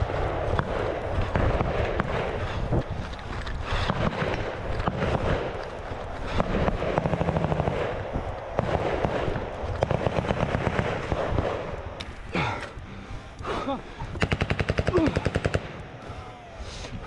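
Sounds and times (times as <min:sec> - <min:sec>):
crackling gunfire: 0:00.0 - 0:12.6, 0:14.0 - 0:16.2.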